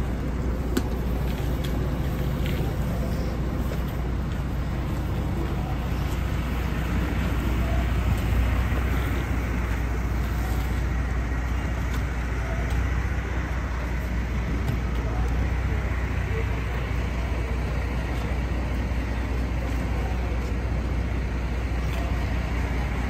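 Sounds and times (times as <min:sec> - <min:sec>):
road traffic rumble: 0:00.0 - 0:23.0
vehicle engines idling: 0:00.0 - 0:23.0.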